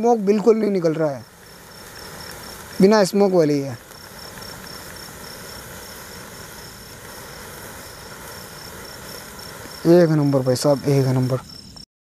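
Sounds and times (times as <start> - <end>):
sparkler fizzing and crackling: 0.0 - 11.8
crickets chirping: 0.0 - 11.9.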